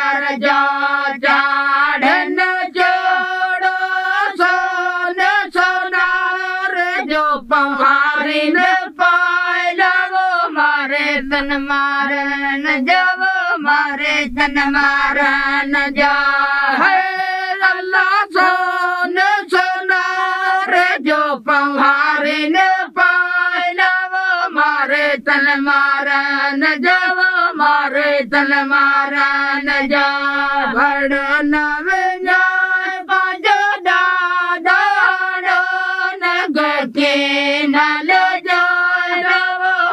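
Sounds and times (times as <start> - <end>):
women singing unaccompanied: 0.0 - 39.9.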